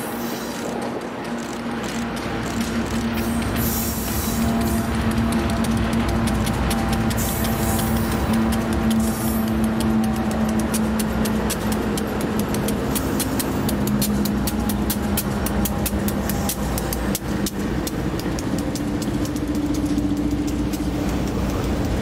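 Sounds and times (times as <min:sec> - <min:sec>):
sharp clicks of train wheels: 0:00.0 - 0:22.0
train rumbling past: 0:00.0 - 0:22.0.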